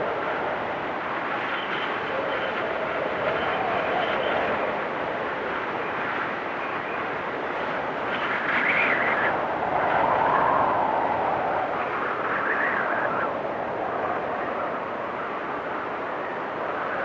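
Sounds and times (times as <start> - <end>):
blizzard wind whistling: 0.0 - 17.0.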